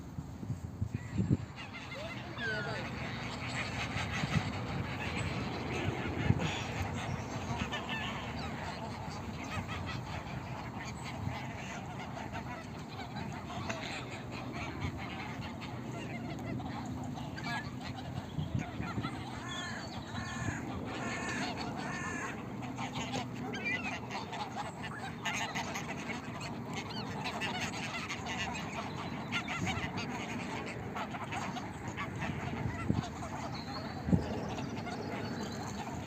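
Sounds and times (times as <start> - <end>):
steady background noise: 0.0 - 36.0
waterfowl calling: 0.9 - 36.0.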